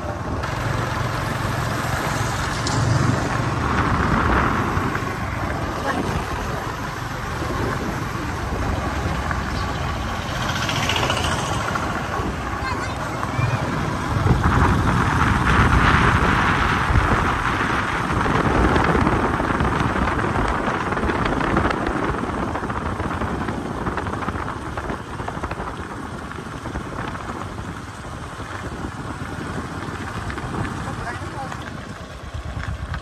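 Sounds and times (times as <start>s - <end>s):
motorbike engine and road noise: 0.0s - 33.0s
wind buffeting microphone: 0.0s - 33.0s.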